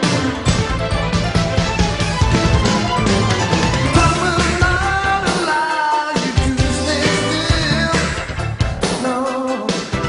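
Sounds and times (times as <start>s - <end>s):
rock music with singing: 0.0s - 10.0s.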